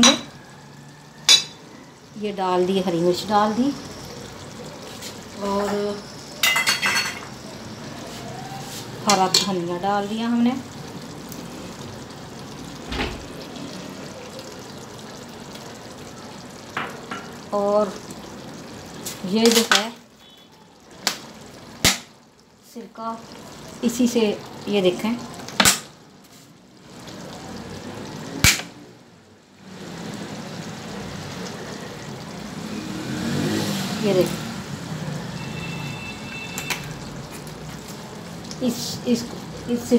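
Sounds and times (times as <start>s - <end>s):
curry simmering in a pot: 0.0s - 39.9s.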